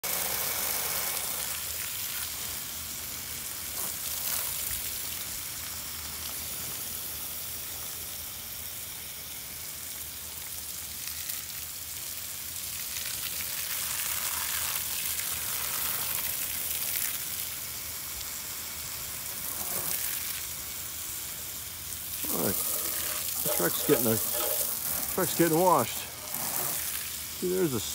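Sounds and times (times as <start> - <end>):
hose spray hissing on carpet: 0.0 - 11.1, 13.2 - 27.9.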